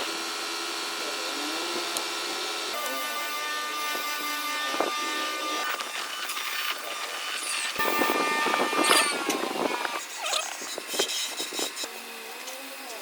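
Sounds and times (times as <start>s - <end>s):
power tool whining on wood: 0.0s - 13.0s.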